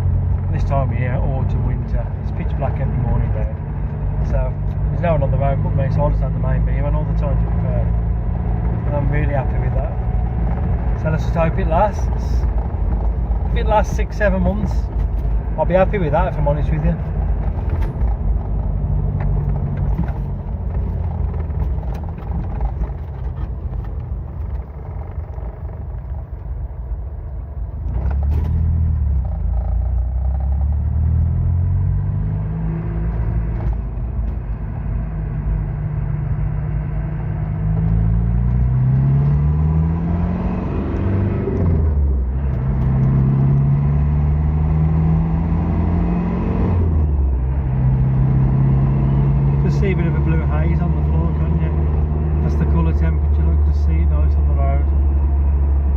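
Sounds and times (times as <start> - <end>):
car engine accelerating: 0.0 - 55.9
road noise inside car: 0.0 - 55.9.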